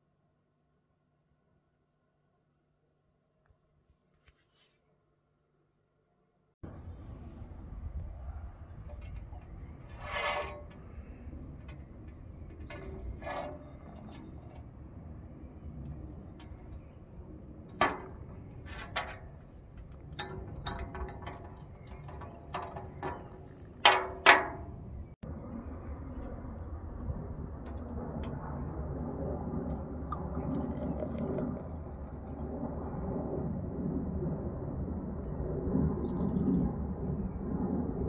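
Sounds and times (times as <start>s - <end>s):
low rumble: 6.6s - 38.0s.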